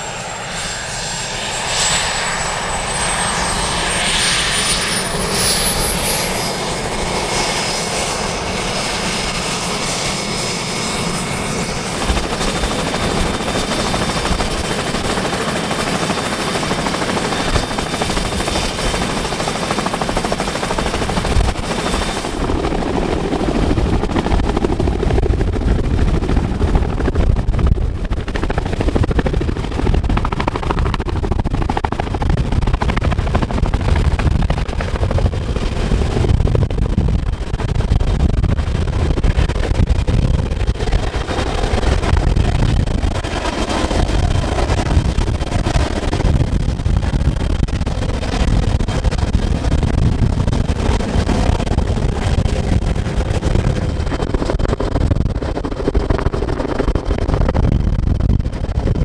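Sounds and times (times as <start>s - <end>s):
deep helicopter rotor sound: 0.0s - 59.0s
high turbine whine: 0.0s - 59.0s.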